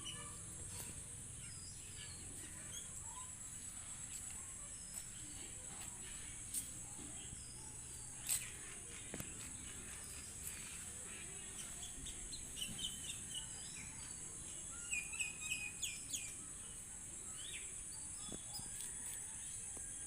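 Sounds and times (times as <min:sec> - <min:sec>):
birds chirping: 0:00.0 - 0:19.4.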